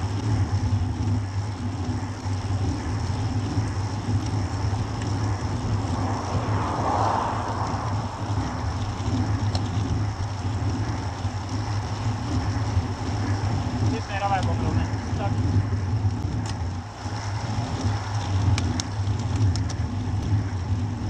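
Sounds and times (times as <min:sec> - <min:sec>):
bicycles rolling on asphalt: 0:00.0 - 0:21.0
wind noise on microphone: 0:00.0 - 0:21.0.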